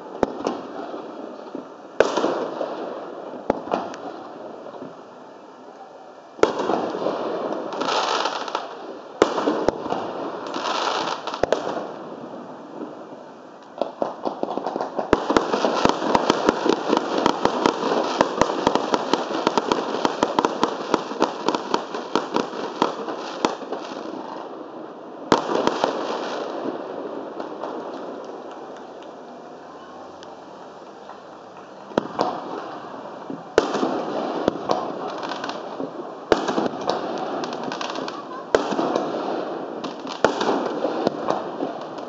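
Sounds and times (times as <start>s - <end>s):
fireworks bangs: 0.0s - 5.0s, 6.4s - 42.0s.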